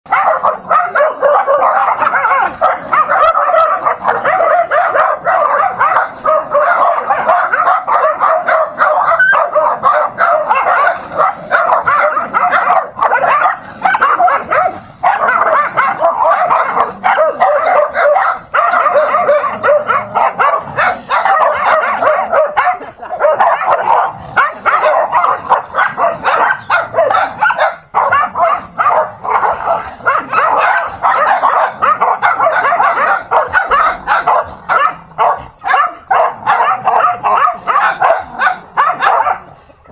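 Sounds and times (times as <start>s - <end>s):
small dogs barking and yipping: 0.1s - 39.9s.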